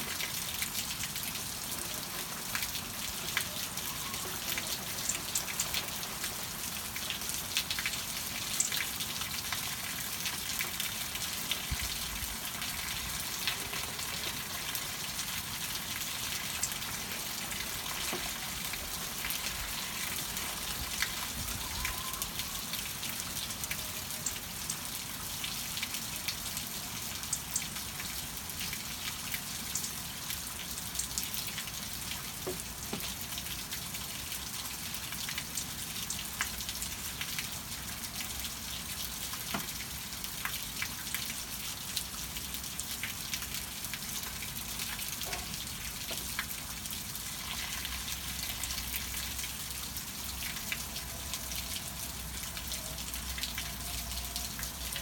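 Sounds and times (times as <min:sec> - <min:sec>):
rain falling: 0:00.0 - 0:55.0
raindrops ticking close by: 0:00.2 - 0:55.0.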